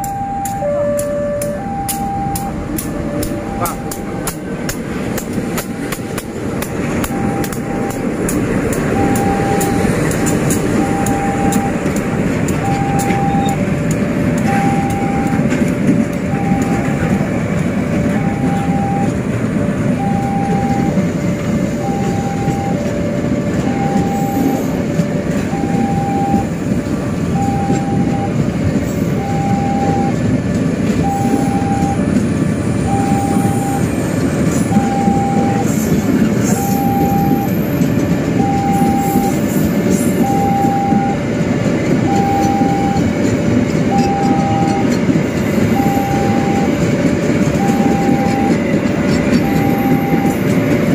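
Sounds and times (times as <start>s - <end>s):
level-crossing alarm ringing: 0.0s - 4.5s, 5.1s - 50.9s
freight train rumbling past: 0.0s - 50.9s.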